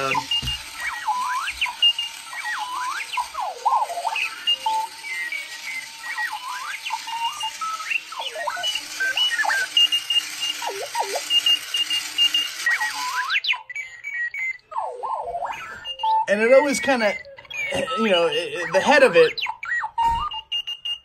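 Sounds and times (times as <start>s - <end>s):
alarm clock electronic chirps: 0.0s - 21.0s
wheel motors whirring on carpet: 0.0s - 21.0s.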